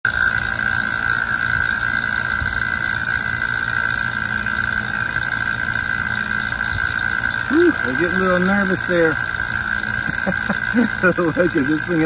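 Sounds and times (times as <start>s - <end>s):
vacuum pump running: 0.0s - 12.0s.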